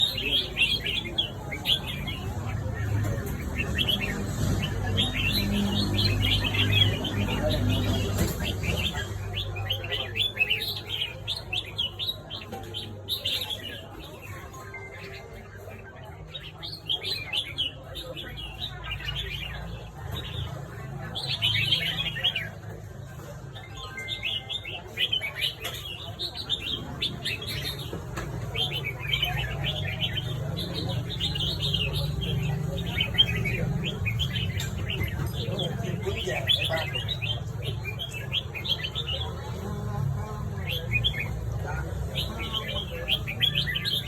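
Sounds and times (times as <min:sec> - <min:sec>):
birds chirping rapidly: 0:00.0 - 0:44.0.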